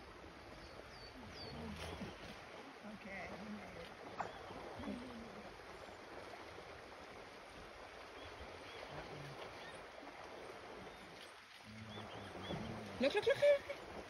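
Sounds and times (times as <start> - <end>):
river water flowing over rocks: 0.0 - 14.0.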